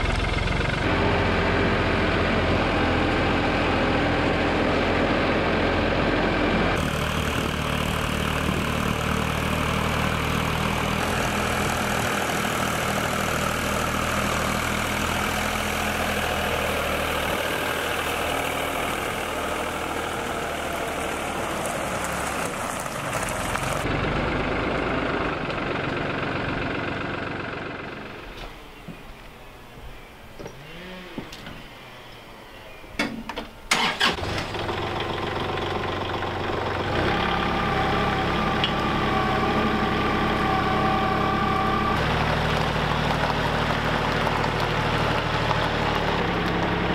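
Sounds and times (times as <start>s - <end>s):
truck engine: 0.0s - 29.7s, 33.0s - 46.9s
road noise: 0.0s - 46.9s.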